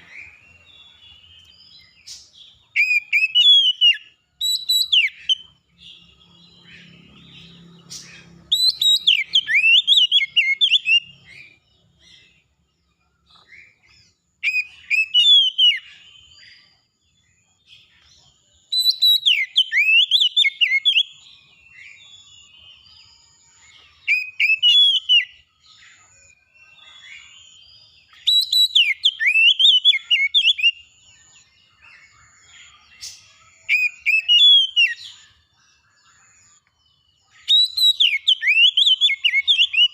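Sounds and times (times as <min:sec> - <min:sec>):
songbirds whistling phrases: 0:00.0 - 0:12.4, 0:13.3 - 0:16.8, 0:18.6 - 0:39.9
quiet bird chirps: 0:00.0 - 0:39.9.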